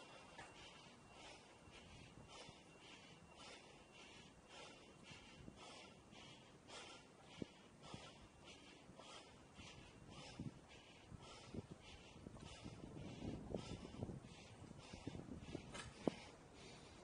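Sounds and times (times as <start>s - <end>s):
heavy breathing: 0.0s - 17.0s.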